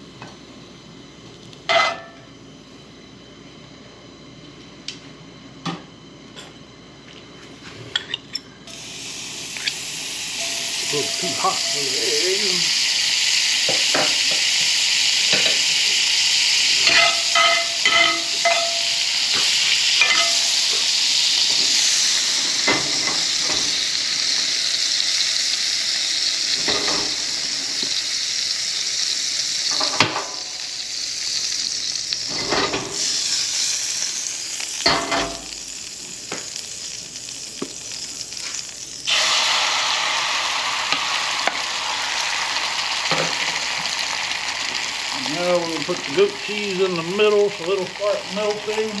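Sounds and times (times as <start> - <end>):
eggs sizzling in a skillet: 8.0 - 49.0.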